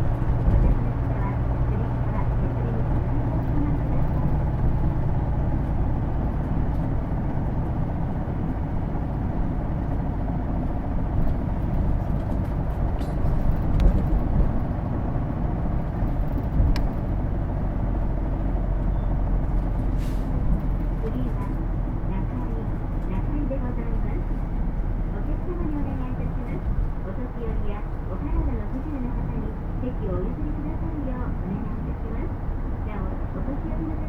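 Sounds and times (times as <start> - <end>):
bus diesel engine drone: 0.0 - 34.0.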